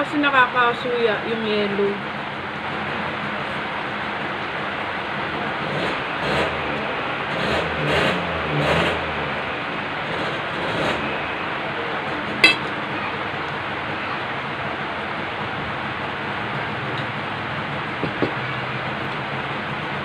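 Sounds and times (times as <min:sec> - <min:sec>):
heavy rain falling: 0:01.6 - 0:20.0.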